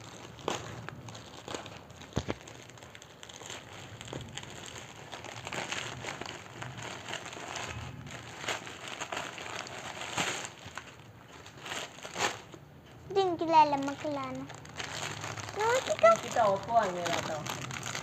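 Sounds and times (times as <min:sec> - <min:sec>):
plastic packaging crinkling: 0:00.0 - 0:12.6, 0:13.5 - 0:18.0.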